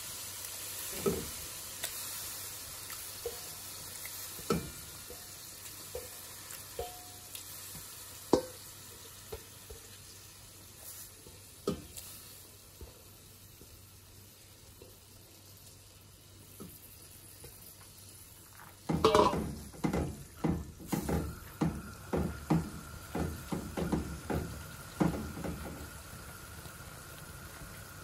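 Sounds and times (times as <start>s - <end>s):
faint sizzle: 0.0s - 28.0s.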